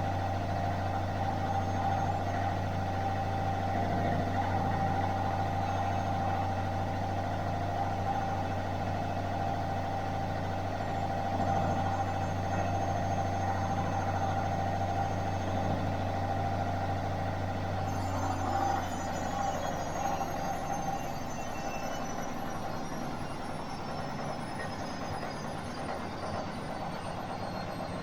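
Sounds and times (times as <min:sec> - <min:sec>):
washing machine running: 0:00.0 - 0:28.0.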